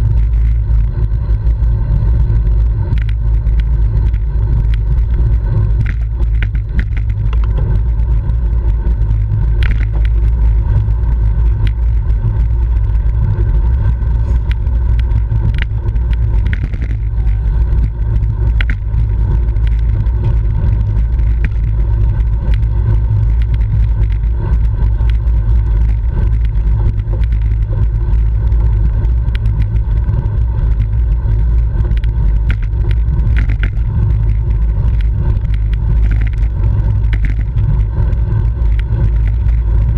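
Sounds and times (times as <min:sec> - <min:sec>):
faint ticks and clicks: 0:00.0 - 0:39.9
wind buffeting microphone: 0:00.0 - 0:39.9.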